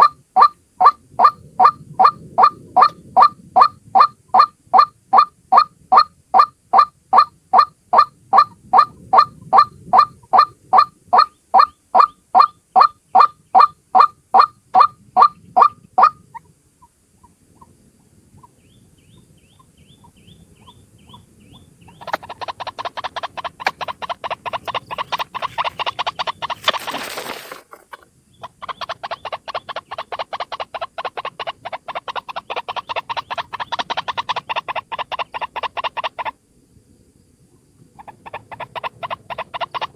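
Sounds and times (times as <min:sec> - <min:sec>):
waterhen call: 0:00.0 - 0:16.5, 0:19.6 - 0:36.4, 0:38.0 - 0:39.9.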